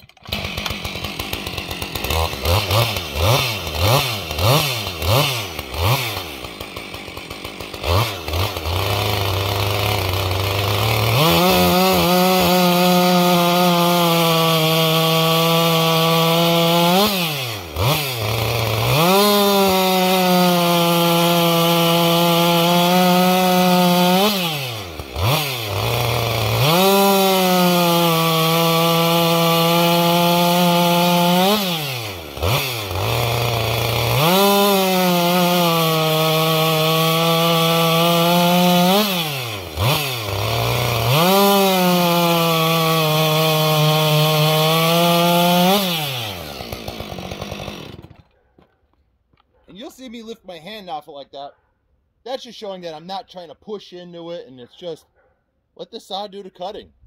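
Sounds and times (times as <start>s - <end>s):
chainsaw revving and cutting log: 0.0s - 48.7s.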